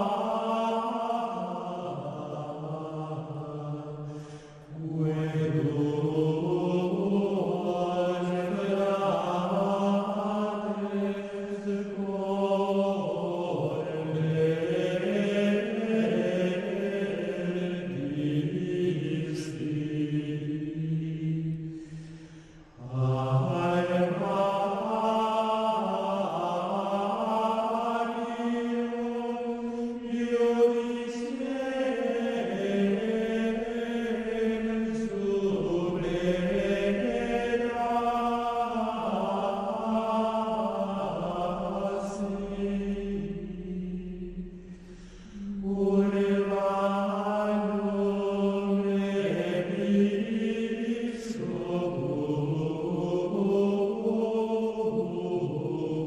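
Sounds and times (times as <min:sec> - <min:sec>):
slow vocal chant: 0:00.0 - 0:56.0.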